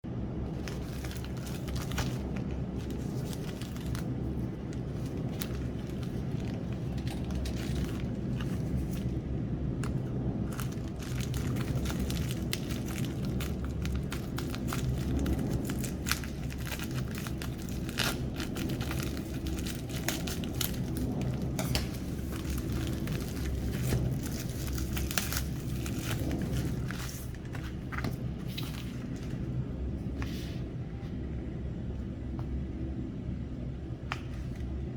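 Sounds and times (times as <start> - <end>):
steady low hum: 0.0 - 34.9
packaging crinkling and tearing: 0.5 - 29.5.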